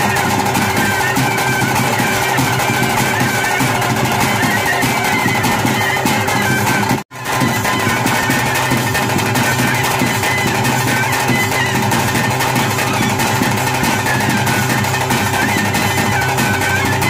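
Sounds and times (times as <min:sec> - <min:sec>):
fast drumming: 0:00.0 - 0:17.0
wavering high melody: 0:00.0 - 0:17.0.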